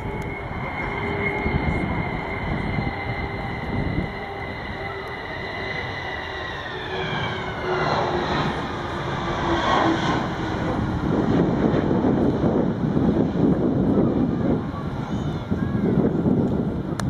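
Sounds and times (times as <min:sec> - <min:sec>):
deep jet rumble: 0:00.0 - 0:17.0
jet engine whine: 0:00.0 - 0:17.0.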